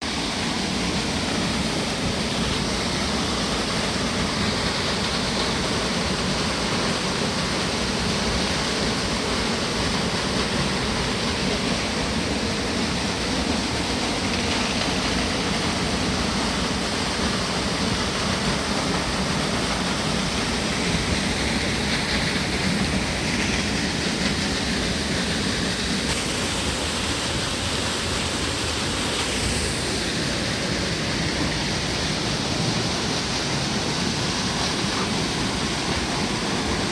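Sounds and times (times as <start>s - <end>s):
stream water rushing: 0.0s - 36.9s.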